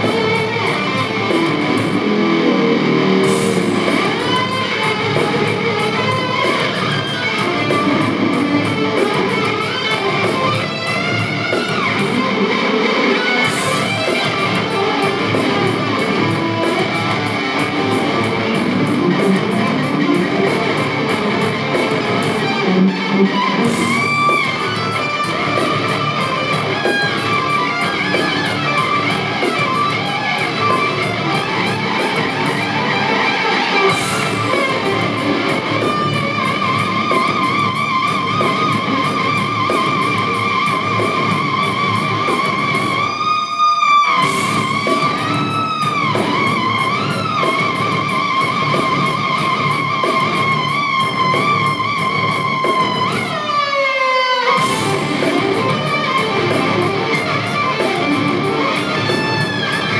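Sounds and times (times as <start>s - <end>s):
band beat: 0.0s - 59.9s
distorted electric guitars: 0.0s - 59.9s.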